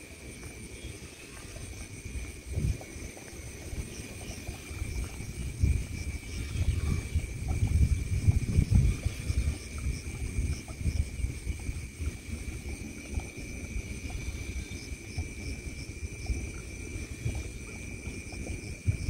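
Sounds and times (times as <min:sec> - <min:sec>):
crickets chirping: 0:00.0 - 0:19.0
wind buffeting microphone: 0:00.5 - 0:19.0.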